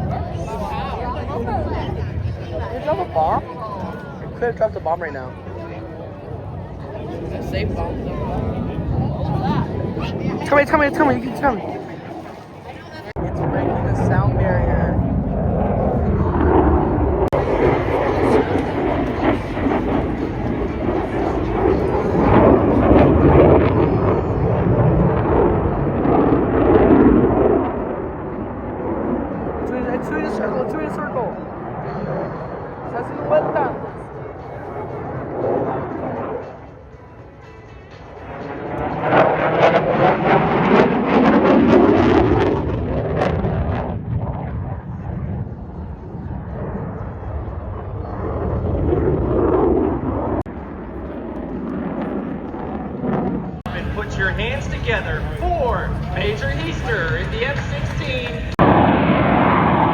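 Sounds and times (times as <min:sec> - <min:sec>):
jet passing low and fast: 0:00.0 - 0:59.9.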